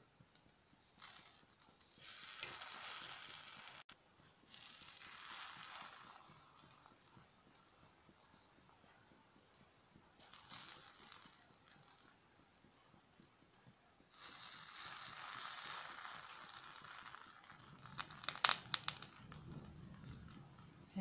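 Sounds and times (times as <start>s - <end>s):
batter sizzling in hot oil: 0.1s - 21.0s.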